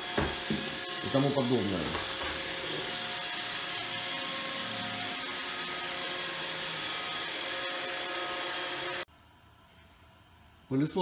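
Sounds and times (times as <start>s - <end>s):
robot vacuum whirring: 0.0s - 9.1s.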